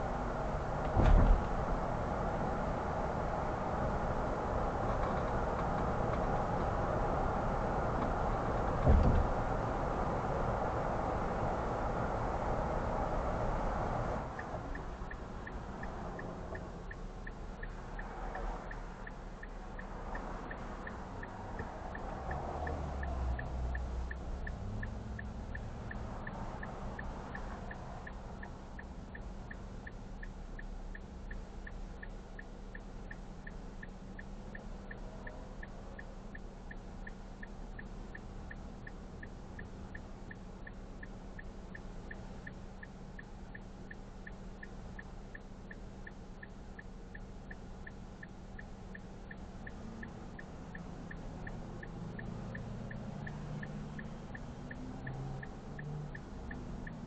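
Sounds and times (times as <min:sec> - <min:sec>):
road noise: 0:00.0 - 0:57.0
truck engine hum: 0:00.0 - 0:57.0
turn signal clicking: 0:00.3 - 0:57.0.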